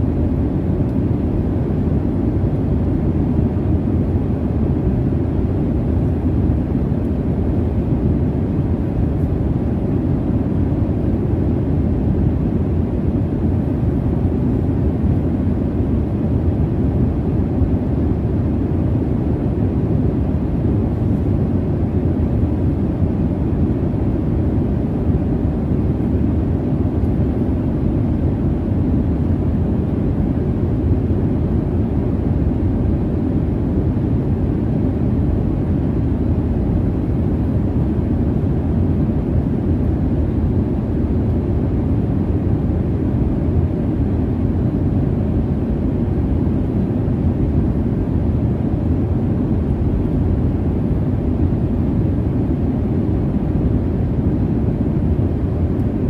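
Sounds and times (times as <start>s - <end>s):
jet airliner cabin noise: 0.0s - 56.0s.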